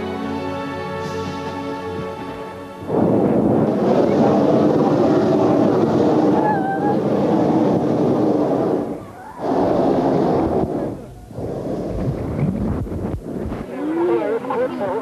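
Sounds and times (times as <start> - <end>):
propane burner blast: 1.0 - 13.8.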